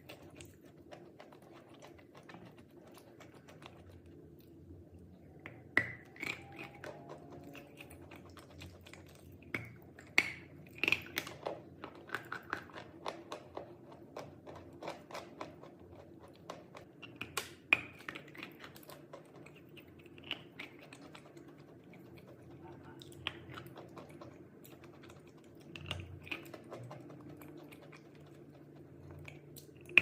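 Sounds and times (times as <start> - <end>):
chalk being chewed: 0.0 - 4.6, 5.8 - 30.0.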